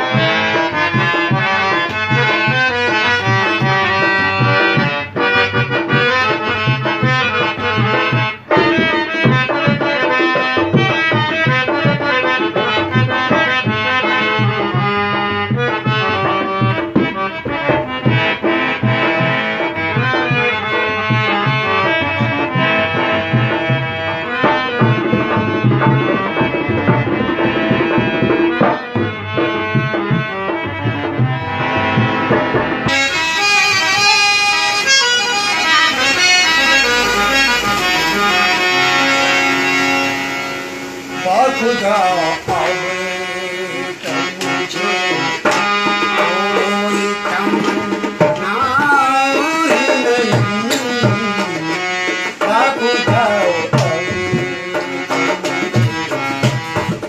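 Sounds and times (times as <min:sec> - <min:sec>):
hand drum beating: 0:00.0 - 0:57.0
harmonium melody: 0:00.0 - 0:57.0.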